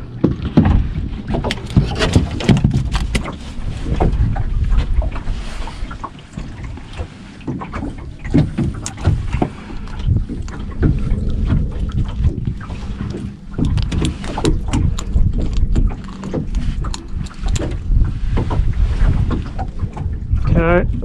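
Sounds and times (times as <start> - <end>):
water lapping against boat hull: 0.0 - 21.0
wind buffeting microphone: 0.0 - 21.0.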